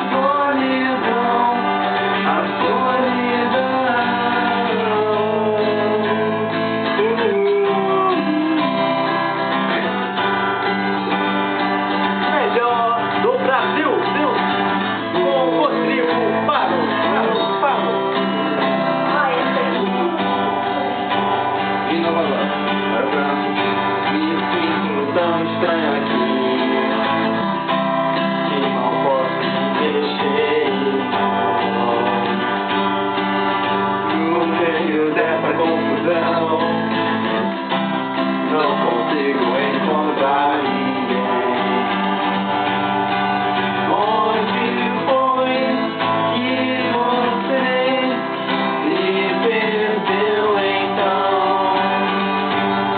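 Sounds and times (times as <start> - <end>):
person singing: 0.0 - 11.4, 15.0 - 27.6, 28.4 - 32.8, 33.6 - 37.6, 38.3 - 42.4, 43.6 - 52.9
acoustic guitar: 0.0 - 52.9.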